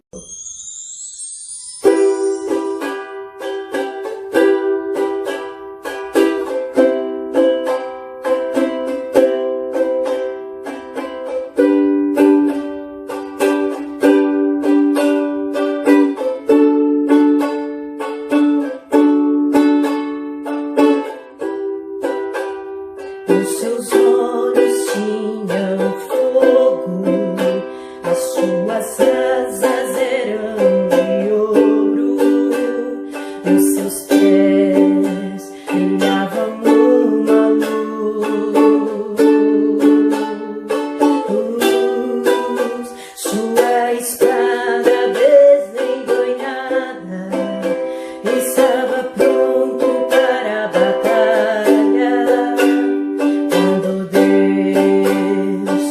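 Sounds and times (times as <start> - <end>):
person singing: 0.1 - 55.9
ukulele strumming chords: 0.1 - 55.9.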